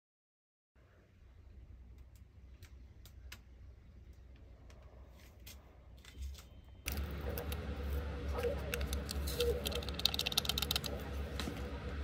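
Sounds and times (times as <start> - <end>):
steady low hum: 0.8 - 12.0.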